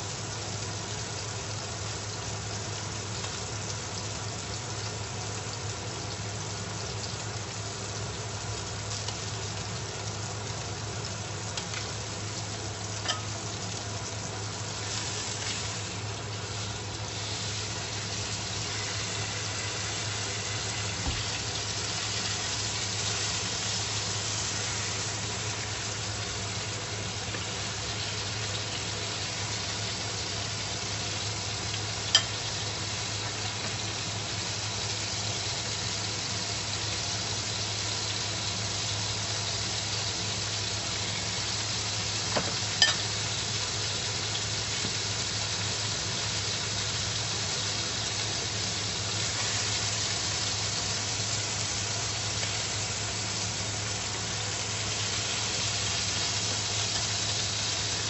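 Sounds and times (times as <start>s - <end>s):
steak sizzling in a frying pan: 0.0s - 58.0s.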